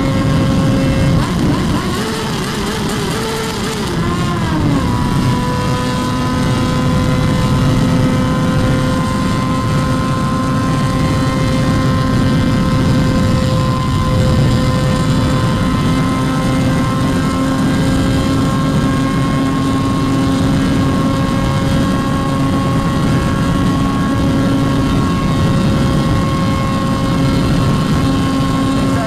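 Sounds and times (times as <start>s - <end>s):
motorcycle engine running: 0.0s - 29.0s
wind on microphone: 0.0s - 29.0s.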